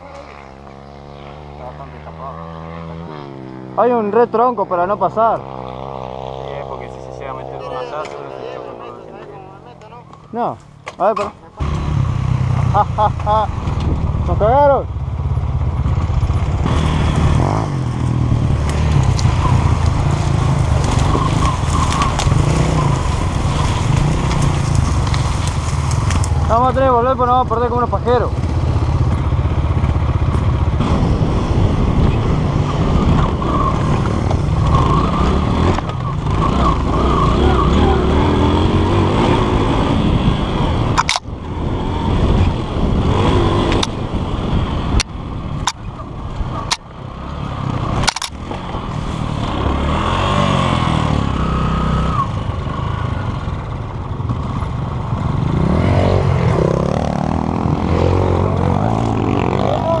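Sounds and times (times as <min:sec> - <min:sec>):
dirt bike engines revving: 0:00.0 - 1:00.0.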